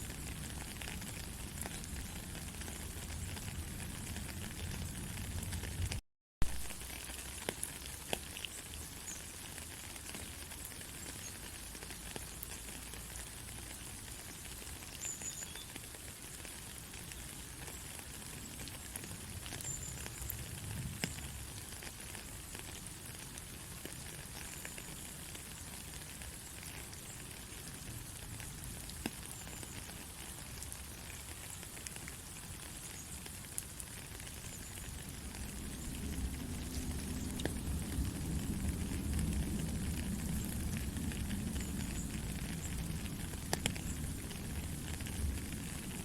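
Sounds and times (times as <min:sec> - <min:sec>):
light rain: 0:00.0 - 0:46.0.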